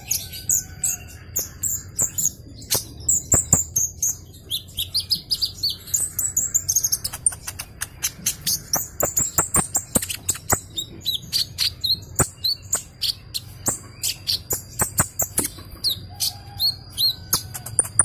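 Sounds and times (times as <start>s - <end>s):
sunbird singing: 0.0s - 18.0s.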